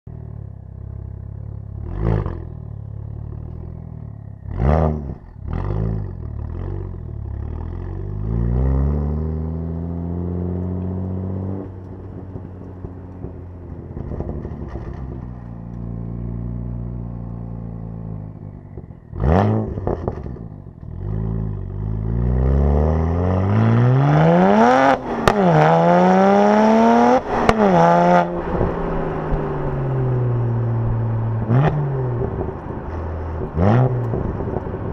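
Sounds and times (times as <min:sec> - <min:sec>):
exhaust crack: 0:00.1 - 0:34.9
car engine revving: 0:00.2 - 0:34.9.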